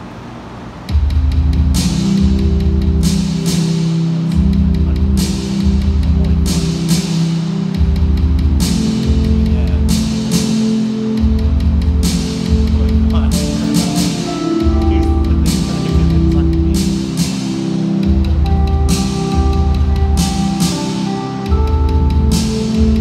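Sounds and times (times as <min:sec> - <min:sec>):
drum hits and cymbal crashes: 0:00.9 - 0:23.0
loud live band music: 0:01.0 - 0:23.0.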